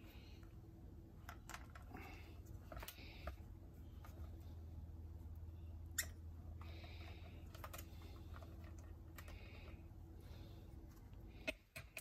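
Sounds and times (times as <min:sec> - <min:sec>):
faint low hum: 0:00.0 - 0:12.0
soft rubbing of parts: 0:00.0 - 0:12.0.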